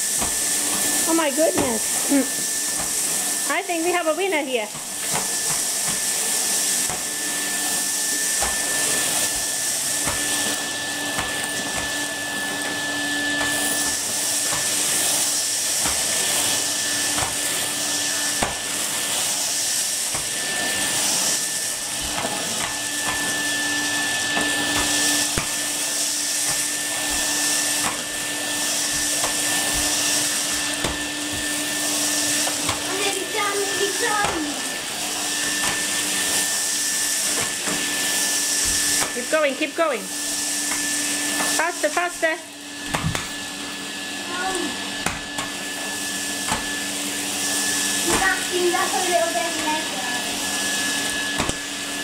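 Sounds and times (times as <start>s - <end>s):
vacuum cleaner motor whine: 0.0s - 52.0s
vacuum tool on carpet: 0.0s - 52.0s.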